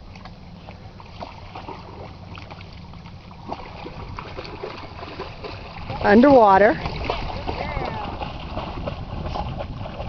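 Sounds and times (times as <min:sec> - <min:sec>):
pond water lapping: 0:00.0 - 0:10.0
wind rumble on microphone: 0:01.6 - 0:10.0.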